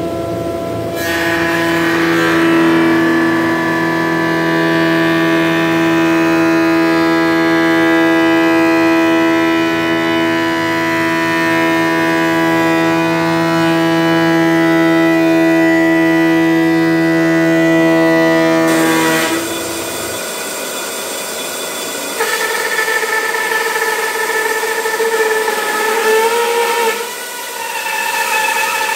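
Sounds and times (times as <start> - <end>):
jointer-planer whining: 0.0 - 28.9
band saw cutting wood: 1.0 - 28.9.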